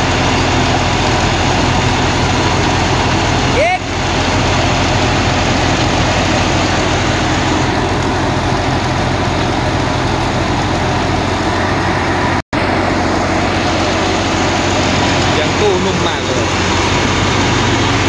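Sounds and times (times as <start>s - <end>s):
large diesel engine running: 0.0s - 18.0s.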